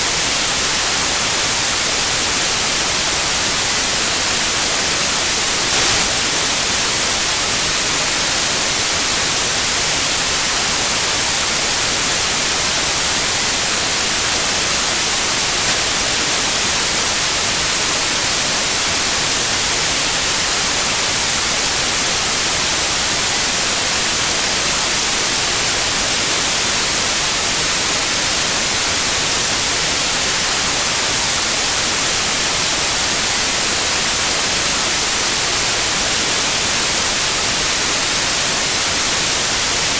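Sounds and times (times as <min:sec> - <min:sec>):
high-pitched pure tone: 0:00.0 - 0:39.9
white noise hiss: 0:00.0 - 0:39.9.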